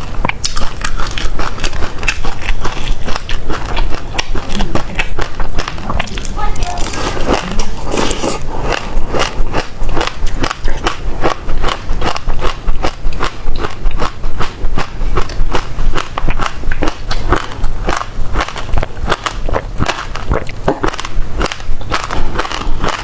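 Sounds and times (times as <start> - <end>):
chewing crunchy seeds: 0.0 - 23.0.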